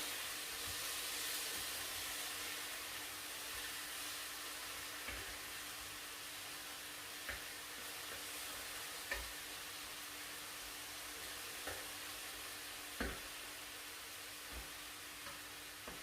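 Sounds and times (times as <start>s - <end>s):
meat sizzling on grill: 0.0s - 16.0s.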